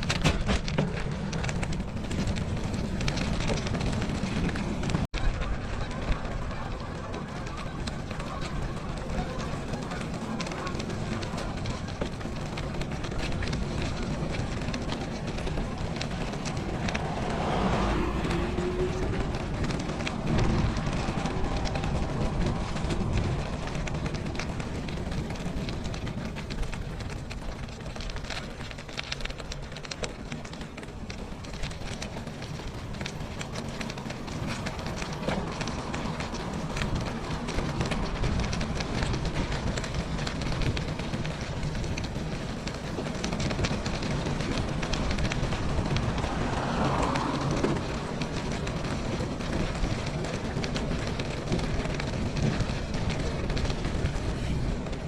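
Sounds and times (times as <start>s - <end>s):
bicycle rushing rumble: 0.0s - 55.0s
small clicks and rattles: 0.0s - 55.0s.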